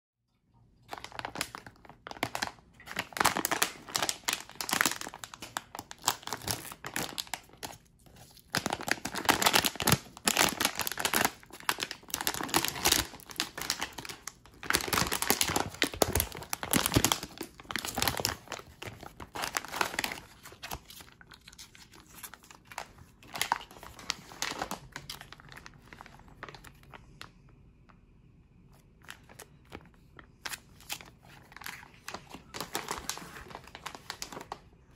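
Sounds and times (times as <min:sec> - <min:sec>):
plastic packaging crinkling: 0:00.8 - 0:27.3, 0:28.7 - 0:34.9
packaging tearing: 0:00.9 - 0:27.0, 0:29.0 - 0:34.6.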